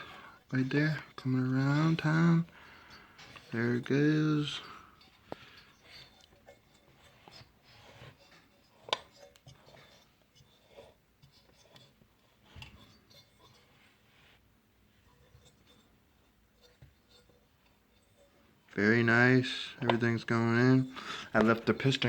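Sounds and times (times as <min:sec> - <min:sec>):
engine parts rubbing and clicking: 0:00.0 - 0:22.0.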